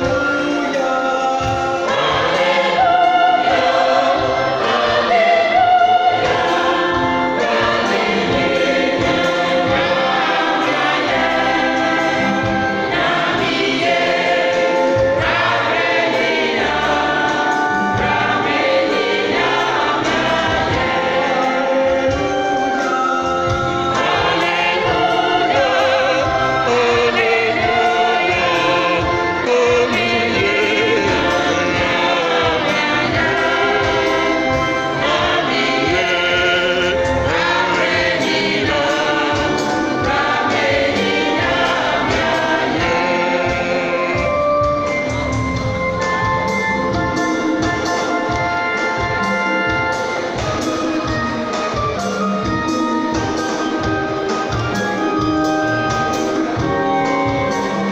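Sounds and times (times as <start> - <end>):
church choir singing: 0.0 - 57.9.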